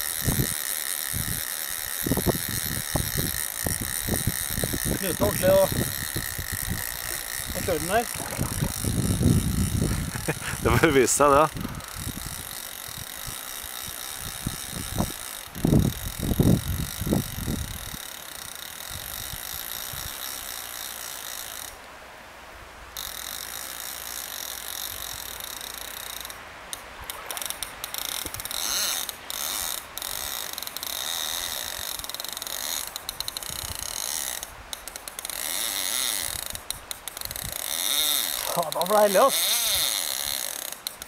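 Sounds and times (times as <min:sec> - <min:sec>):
fly reel ratchet buzzing: 0:00.0 - 0:21.9, 0:23.0 - 0:41.0.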